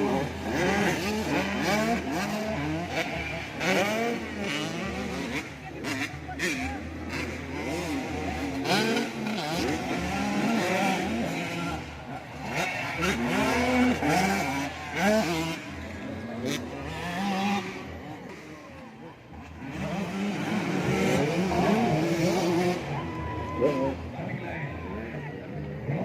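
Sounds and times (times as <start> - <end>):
motocross bikes racing: 0.0 - 26.0.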